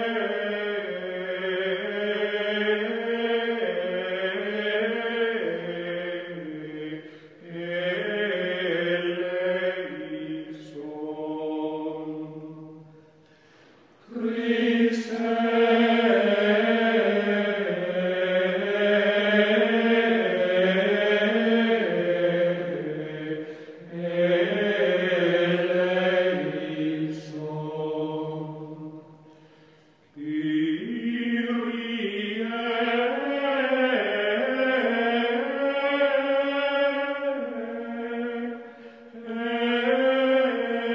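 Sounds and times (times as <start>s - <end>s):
slow vocal chant: 0.0s - 40.9s.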